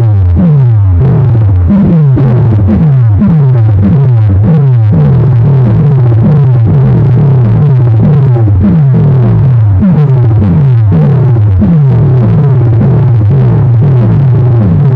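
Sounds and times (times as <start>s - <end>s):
deep synth bass sliding down: 0.0s - 14.9s
loud electronic music: 0.0s - 14.9s.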